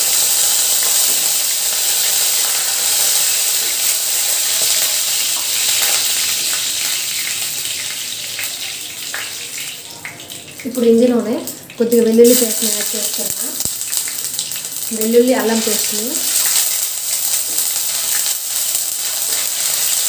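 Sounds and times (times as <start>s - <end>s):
spices crackling: 0.0s - 9.6s, 12.1s - 20.0s
hot oil sizzling: 0.0s - 20.0s.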